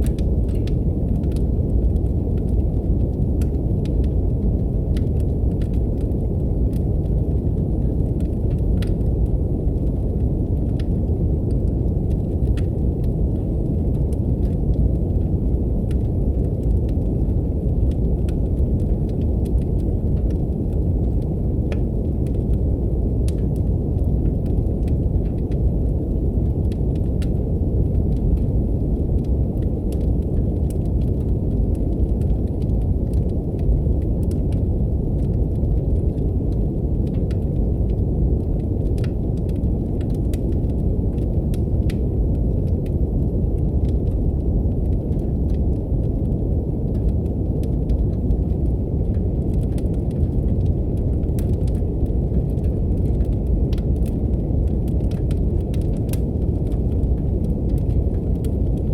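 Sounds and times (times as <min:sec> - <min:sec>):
brown noise hiss: 0:00.0 - 0:58.9
wood fire crackling: 0:00.0 - 0:58.9.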